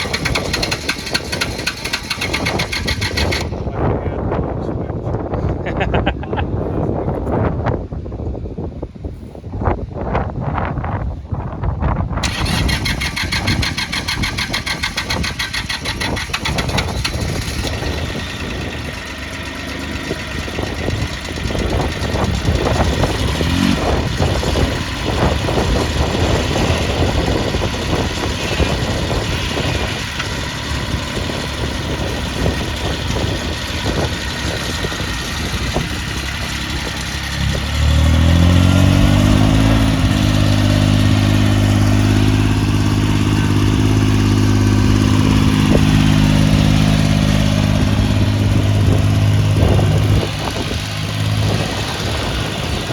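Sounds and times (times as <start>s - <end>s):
tractor diesel engine revving: 0.0s - 3.8s, 12.2s - 52.9s.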